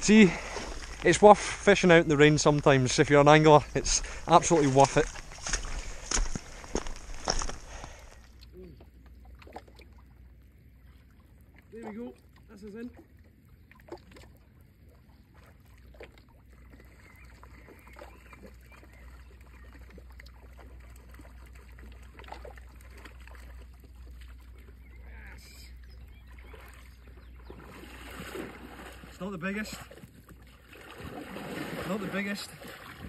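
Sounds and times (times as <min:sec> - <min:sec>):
small water splashes and clicks: 0:00.0 - 0:01.7, 0:02.3 - 0:33.0
calm seawater rumble: 0:00.0 - 0:33.0.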